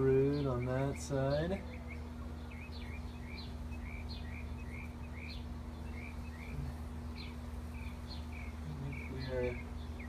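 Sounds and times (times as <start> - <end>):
small birds chirping: 0.0 - 10.0
steady low hum: 0.0 - 10.0.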